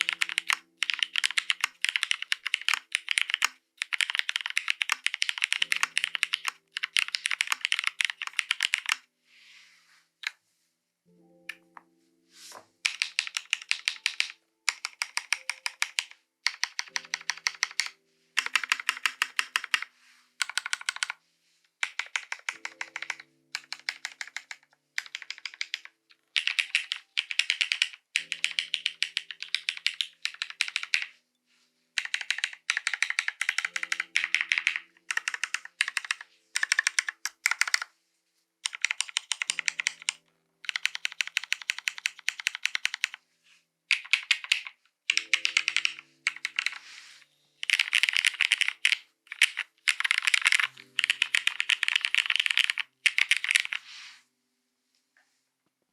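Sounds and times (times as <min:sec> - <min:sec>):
mechanical keyboard typing: 0:00.0 - 0:09.1, 0:12.8 - 0:21.2, 0:21.8 - 0:31.1, 0:32.0 - 0:37.9, 0:38.6 - 0:43.2, 0:43.9 - 0:46.8, 0:47.6 - 0:53.8.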